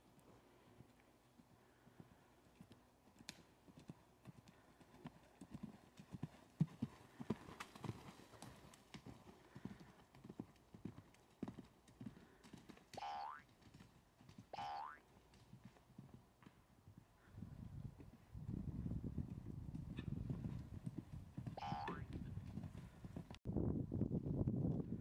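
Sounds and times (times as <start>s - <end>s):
horse hoofbeats on dirt: 0.2s - 17.2s, 17.9s - 23.4s.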